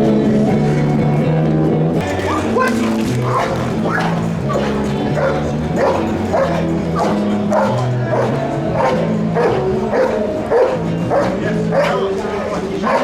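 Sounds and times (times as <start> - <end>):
background music with bass notes: 0.0 - 13.0
dog barking: 2.2 - 13.0.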